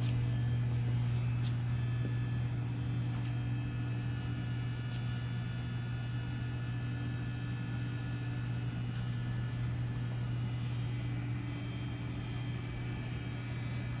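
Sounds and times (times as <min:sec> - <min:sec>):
faint high whining tones: 0:00.0 - 0:14.0
machinery hum: 0:00.0 - 0:14.0.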